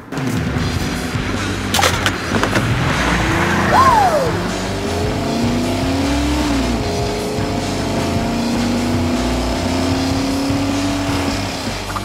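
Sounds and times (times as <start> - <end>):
vehicle engine humming drone: 0.0 - 12.0.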